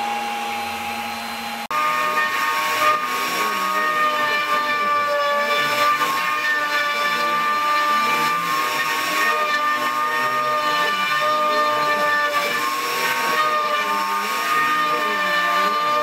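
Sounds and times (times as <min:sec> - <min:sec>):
router spindle high whine: 0:00.0 - 0:16.0.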